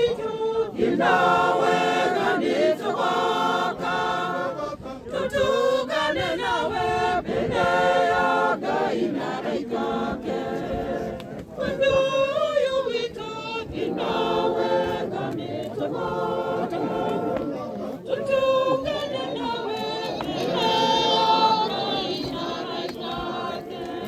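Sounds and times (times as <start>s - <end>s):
crowd singing unaccompanied: 0.0s - 24.0s.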